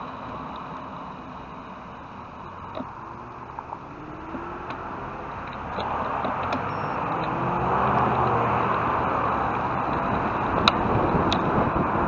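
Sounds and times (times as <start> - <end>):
cars passing close: 0.0 - 12.0.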